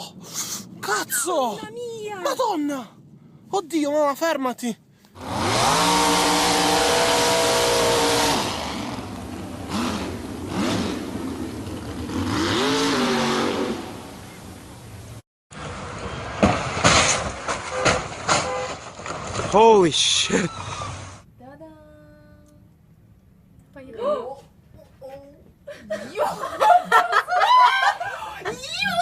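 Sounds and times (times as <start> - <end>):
road noise: 0.0 - 29.0.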